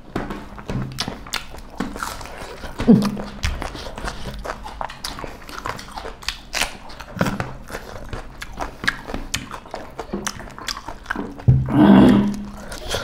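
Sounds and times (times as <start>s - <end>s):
chewing and lip-smacking: 0.1s - 13.0s.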